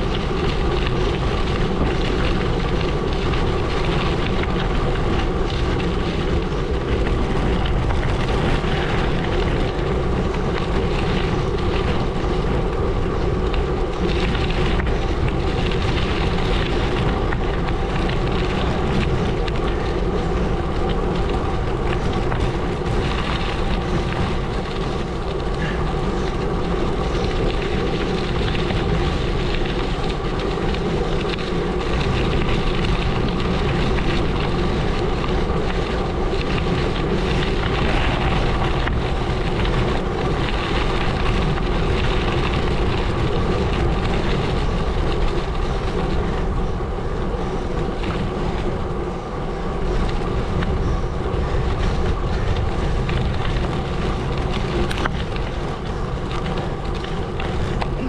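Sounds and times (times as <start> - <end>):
bike tyres crunching on gravel: 0.0 - 58.0
wind on microphone: 0.0 - 58.0.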